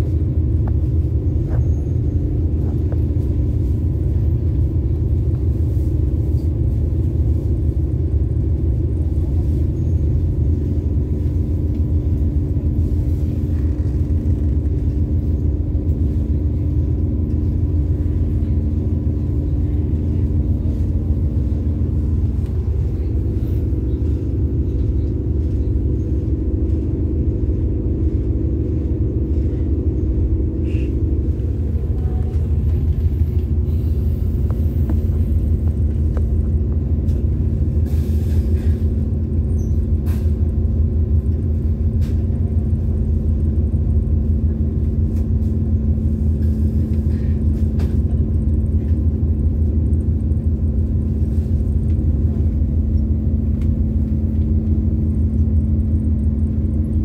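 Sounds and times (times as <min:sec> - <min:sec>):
locomotive idling: 0:00.0 - 0:57.0.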